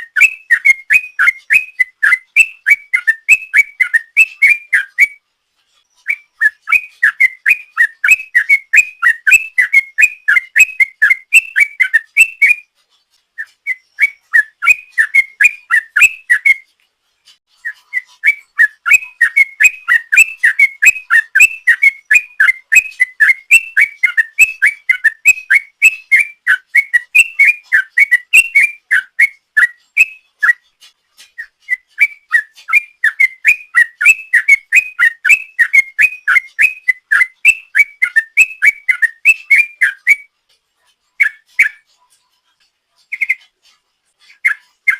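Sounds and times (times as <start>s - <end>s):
bird singing whistled notes: 0.0s - 40.4s, 41.0s - 44.9s.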